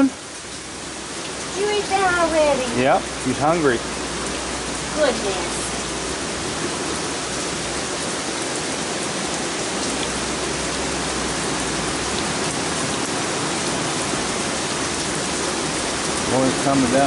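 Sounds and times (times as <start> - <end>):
heavy rain on wooden deck: 0.0 - 17.0.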